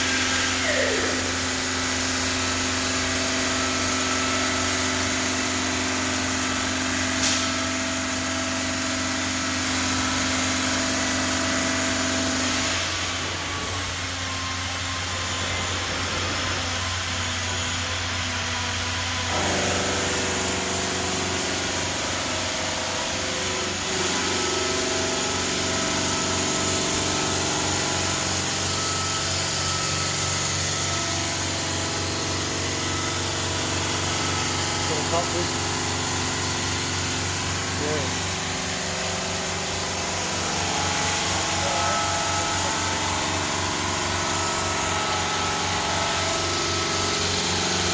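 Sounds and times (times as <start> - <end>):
stone saw machine drone: 0.0 - 47.9.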